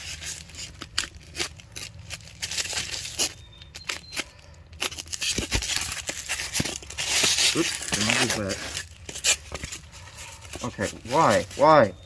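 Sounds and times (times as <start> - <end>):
packing material rustling and tearing: 0.0 - 12.0.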